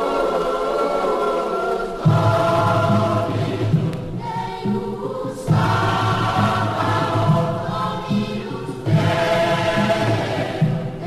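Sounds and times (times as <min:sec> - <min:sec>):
choir singing sustained chords: 0:00.0 - 0:11.0.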